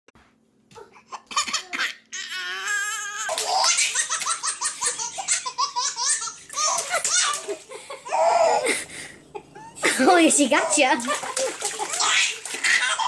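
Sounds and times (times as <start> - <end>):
babies laughing: 1.0 - 13.0.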